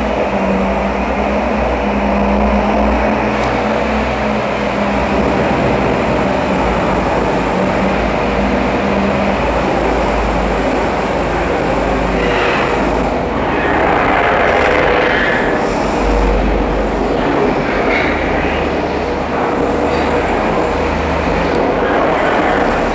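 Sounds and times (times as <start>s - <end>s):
truck diesel engine running: 0.0s - 22.9s.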